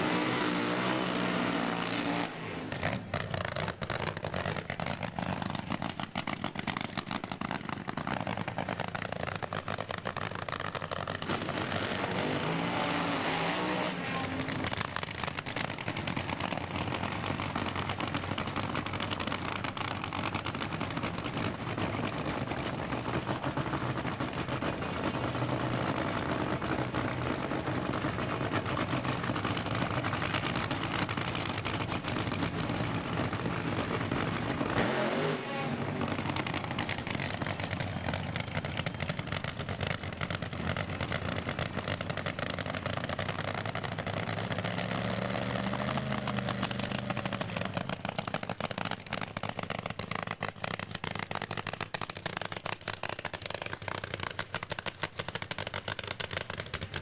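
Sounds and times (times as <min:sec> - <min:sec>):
drag racing engine running: 0:00.0 - 0:57.0.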